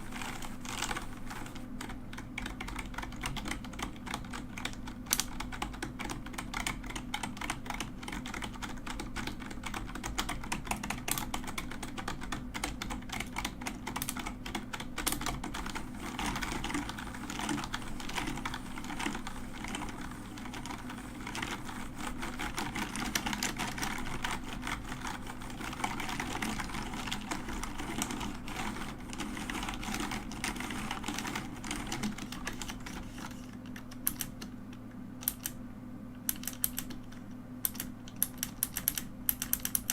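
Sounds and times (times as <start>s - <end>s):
mechanical keyboard typing: 0.0s - 34.5s, 35.2s - 35.6s, 36.3s - 39.9s.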